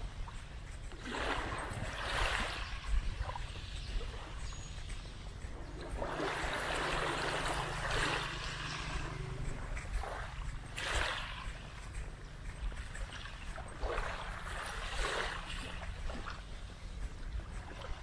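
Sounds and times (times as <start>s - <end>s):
small waves washing onto beach: 0.0s - 18.0s.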